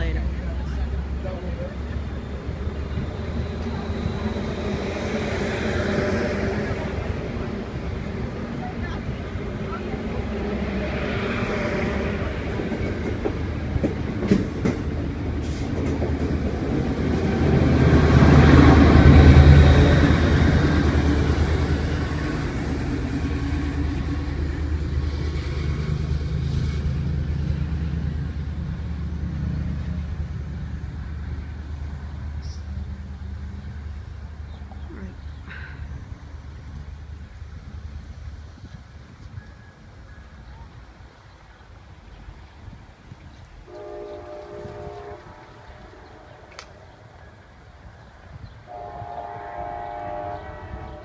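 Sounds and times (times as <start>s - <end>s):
diesel locomotive engine rumble: 0.0s - 51.0s
rail cars rolling: 0.0s - 51.0s.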